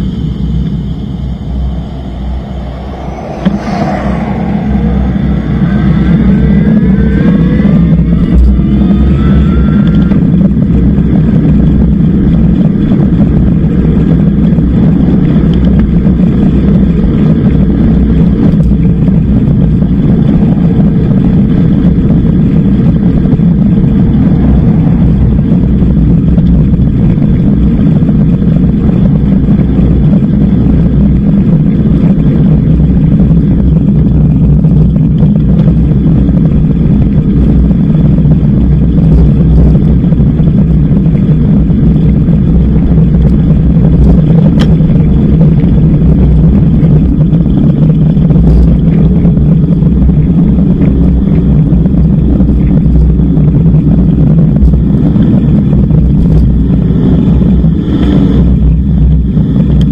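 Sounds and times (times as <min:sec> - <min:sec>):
rising whine: 0:00.0 - 0:59.9
road noise: 0:00.0 - 0:59.9
wind rumble on microphone: 0:00.0 - 0:59.9.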